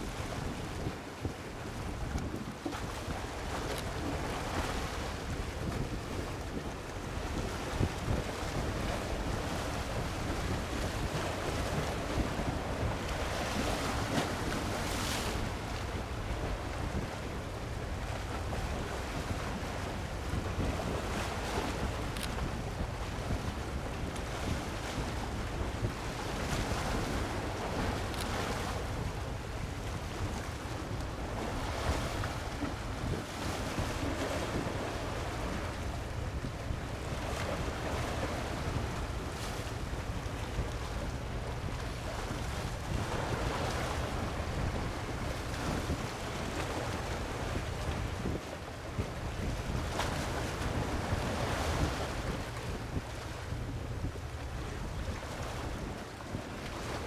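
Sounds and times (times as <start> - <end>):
wind buffeting microphone: 0.1 - 56.0
sea waves breaking: 1.6 - 57.0.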